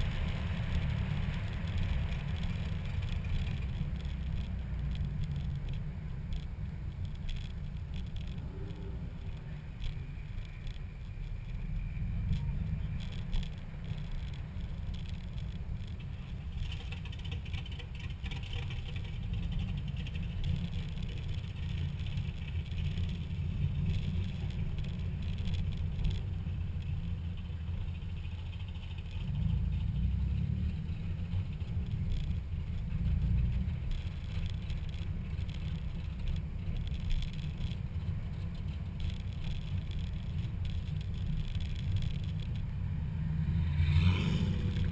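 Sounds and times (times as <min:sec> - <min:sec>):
car engine rumble: 0:00.0 - 0:44.9
faint light rattles: 0:00.0 - 0:44.9.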